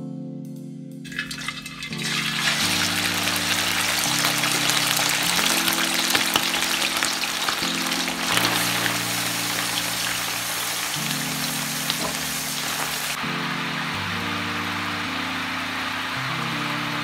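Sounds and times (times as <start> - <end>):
background music with low notes: 0.0 - 17.0
chicken frying in hot oil: 1.1 - 17.0.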